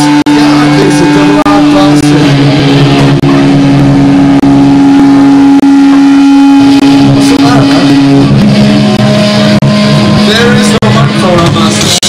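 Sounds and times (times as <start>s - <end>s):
loud distorted rock band: 0.0s - 12.0s.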